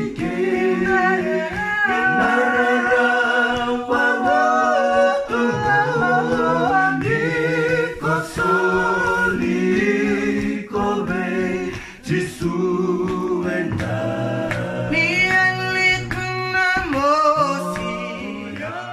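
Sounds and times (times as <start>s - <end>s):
a cappella group singing: 0.0s - 18.9s.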